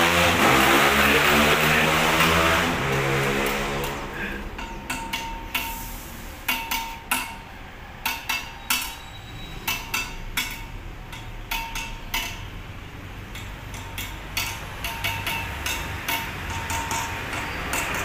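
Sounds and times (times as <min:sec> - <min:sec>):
metallic knocks and clinks: 0:01.7 - 0:18.0.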